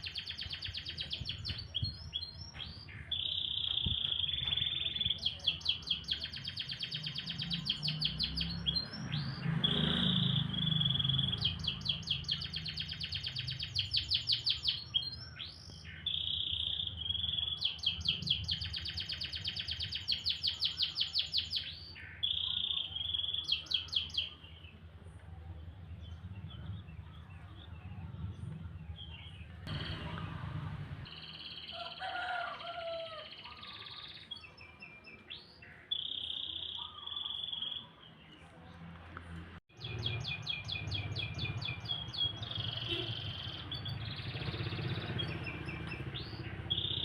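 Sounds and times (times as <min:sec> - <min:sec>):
canary singing: 0:00.0 - 0:24.7, 0:26.2 - 0:38.2, 0:39.7 - 0:47.0.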